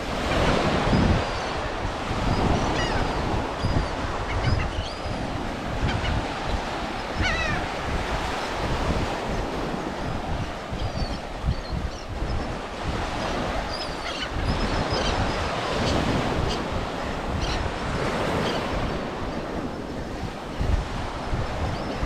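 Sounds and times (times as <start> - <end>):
wind noise on microphone: 0.0 - 22.0
sea birds calling: 0.1 - 22.0.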